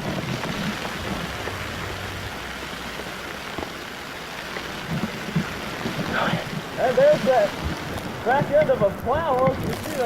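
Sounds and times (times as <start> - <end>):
wind hissing on microphone: 0.0 - 10.0.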